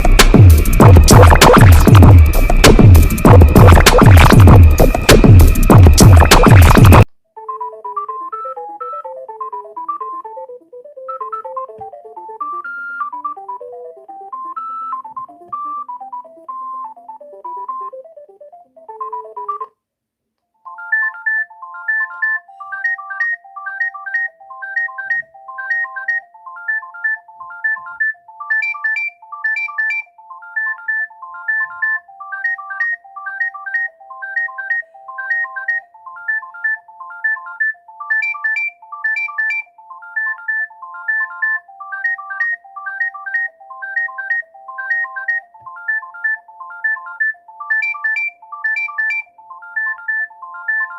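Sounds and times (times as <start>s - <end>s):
mobile phone electronic ringtones: 0.0s - 19.8s, 20.6s - 50.9s.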